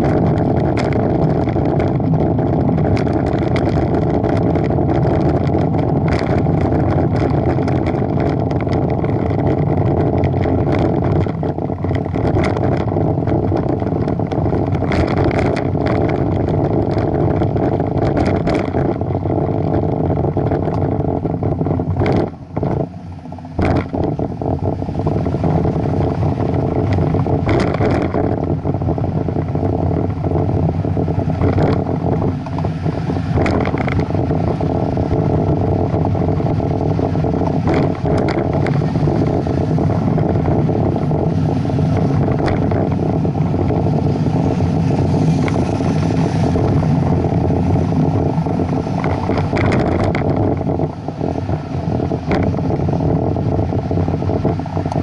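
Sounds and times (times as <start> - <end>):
bicycle tyres on pavement: 0.0 - 55.0
wind buffeting microphone: 0.0 - 55.0.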